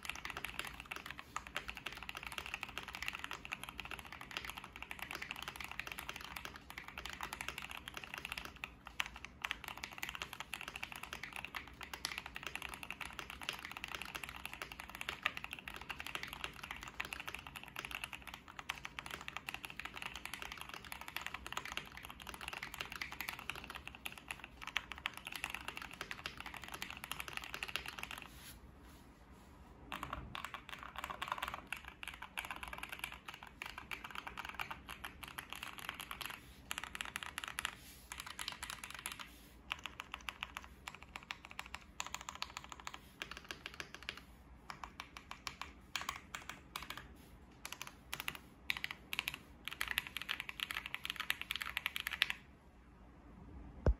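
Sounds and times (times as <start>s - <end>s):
mechanical keyboard typing: 0.0s - 28.3s, 29.9s - 52.4s.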